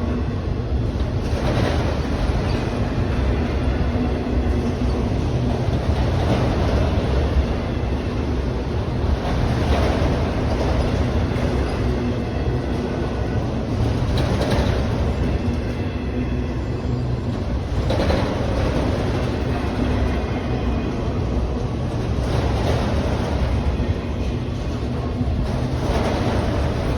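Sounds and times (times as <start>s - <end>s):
freight train wheels rumbling on rail: 0.0s - 26.9s.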